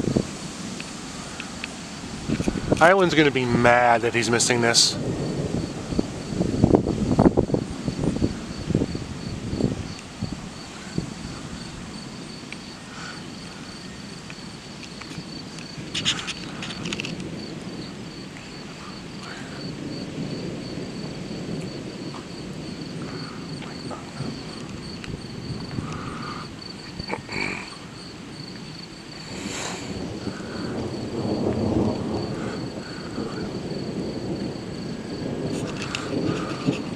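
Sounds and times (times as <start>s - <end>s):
distant thunder rumble: 0.0s - 36.9s
insects trilling: 0.0s - 36.9s.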